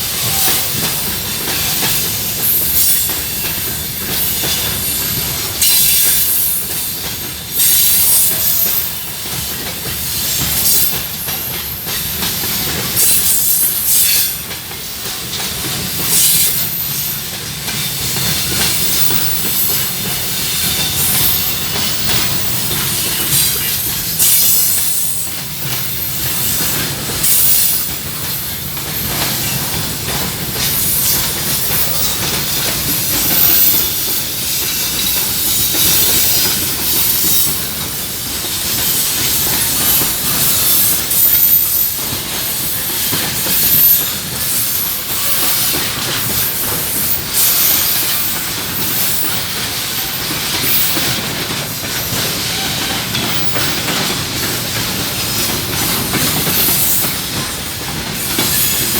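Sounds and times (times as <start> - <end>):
train wheels clattering over rails: 0.0 - 58.9.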